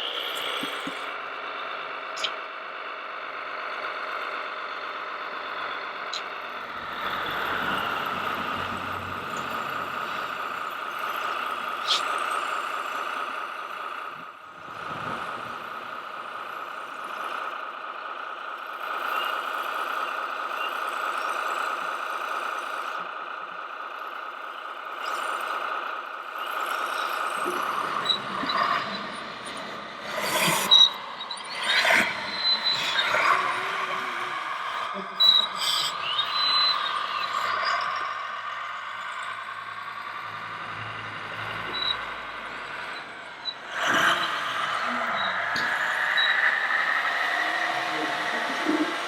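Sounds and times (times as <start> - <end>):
rc vehicles whining: 0.0 - 49.0.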